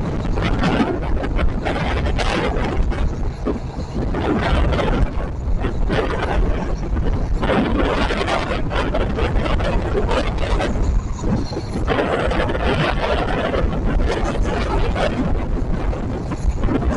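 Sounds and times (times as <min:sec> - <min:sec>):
gusty wind noise: 0:00.0 - 0:16.9
train wheels rumbling on track: 0:00.0 - 0:16.9.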